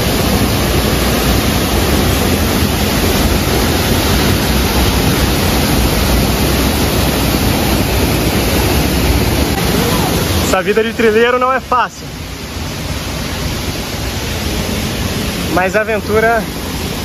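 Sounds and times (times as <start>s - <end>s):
waterfall rushing over boulders: 0.0s - 17.0s.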